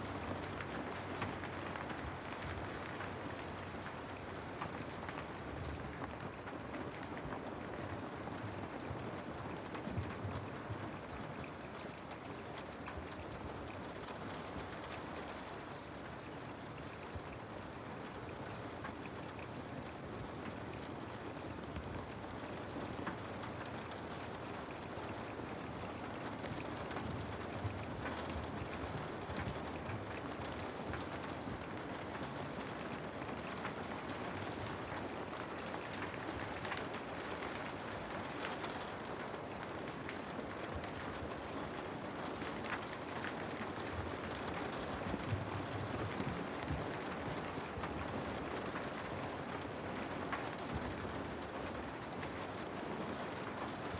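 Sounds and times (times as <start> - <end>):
raindrop ticks: 0.0 - 53.9
steady rain hiss: 0.0 - 53.9.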